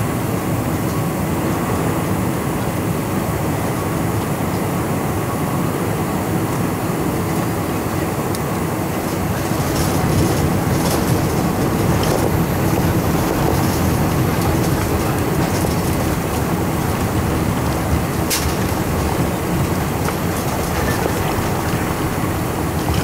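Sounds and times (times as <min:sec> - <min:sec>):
aircraft engines rumbling: 0:00.0 - 0:23.0.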